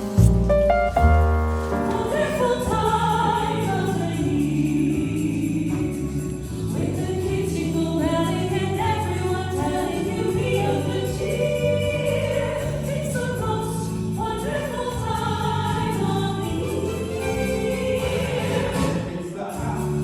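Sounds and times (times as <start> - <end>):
choir singing: 1.8 - 19.6.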